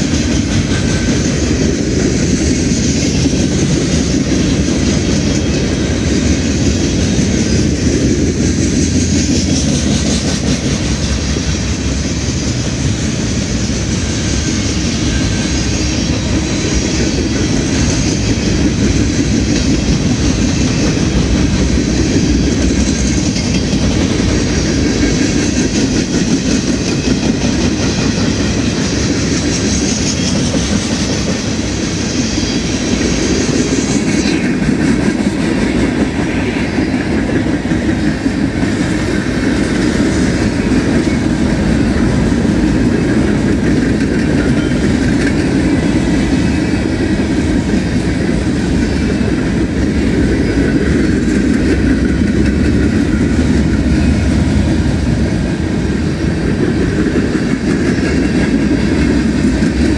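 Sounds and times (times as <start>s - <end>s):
freight train cars rumbling past: 0.0s - 59.9s
wheels clicking over rail joints: 0.0s - 59.9s.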